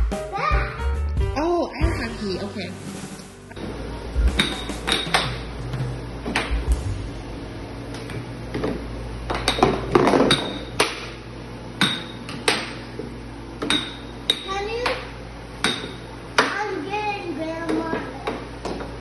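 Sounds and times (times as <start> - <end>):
steady low hum: 1.2 - 19.0.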